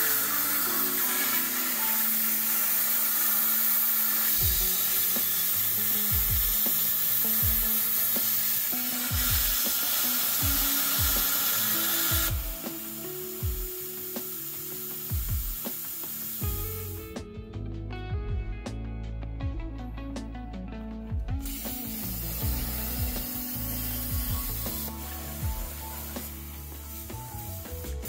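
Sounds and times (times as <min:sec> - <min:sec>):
plasma cutter hissing: 0:00.0 - 0:17.1, 0:21.4 - 0:28.0
background music with beat: 0:00.0 - 0:28.0.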